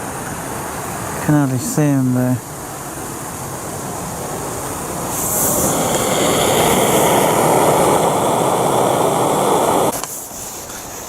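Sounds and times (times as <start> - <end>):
camping stove burner roaring: 0.0 - 10.9.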